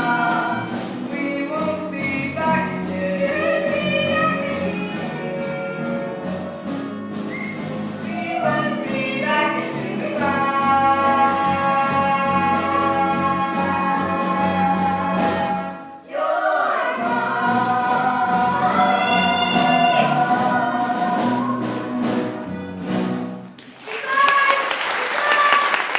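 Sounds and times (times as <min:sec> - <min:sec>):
voices singing held notes: 0:00.0 - 0:22.6
instrumental accompaniment: 0:00.0 - 0:23.8.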